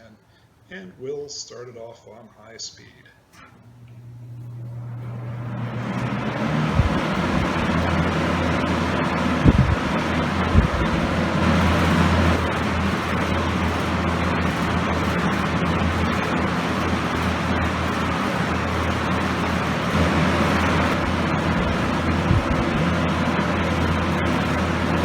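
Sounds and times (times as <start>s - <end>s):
low motor hum: 3.4s - 25.0s
box fan air rushing: 3.6s - 25.0s.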